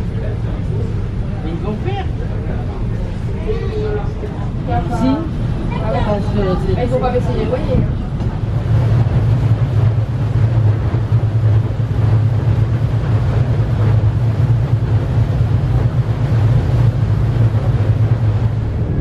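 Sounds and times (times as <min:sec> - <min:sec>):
low engine drone: 0:00.0 - 0:19.0
water wash: 0:00.0 - 0:19.0
wind buffeting microphone: 0:00.0 - 0:19.0.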